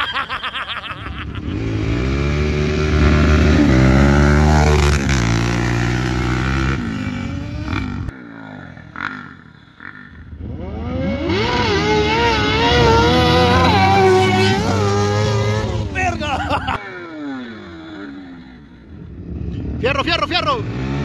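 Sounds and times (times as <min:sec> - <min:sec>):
motorcycle engine revving: 0:01.0 - 0:21.0.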